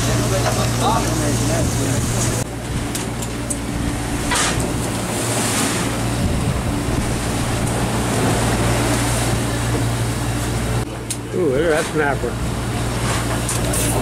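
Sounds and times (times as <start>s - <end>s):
boat engine humming: 0.0s - 14.0s
rough sea washing: 0.0s - 14.0s
wind: 0.0s - 14.0s.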